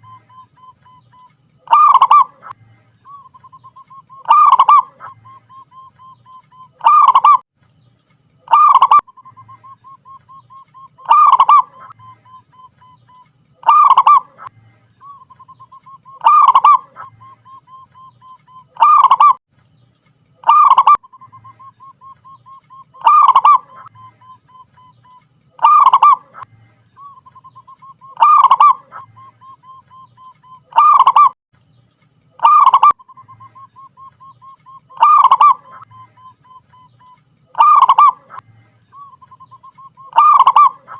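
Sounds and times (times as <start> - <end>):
dove cooing: 0.0 - 7.4, 8.5 - 19.4, 20.4 - 31.4, 32.4 - 38.4, 39.0 - 40.9.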